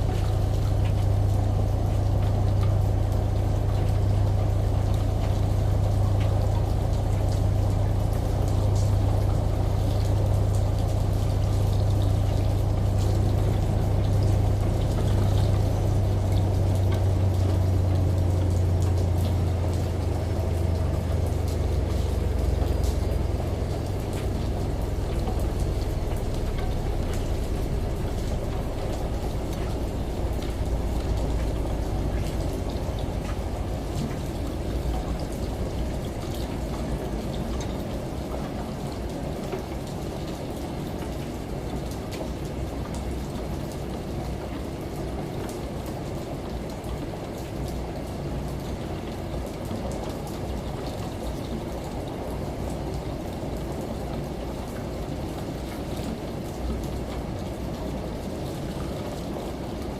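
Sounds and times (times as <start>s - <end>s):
rain: 0.0s - 59.9s
shower water running: 0.0s - 59.9s
washing machine drum hum: 0.0s - 59.9s.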